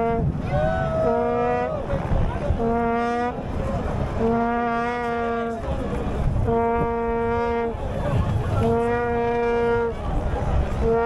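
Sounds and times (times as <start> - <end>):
crowd noise: 0.0 - 11.0
horn blasts: 0.0 - 11.0.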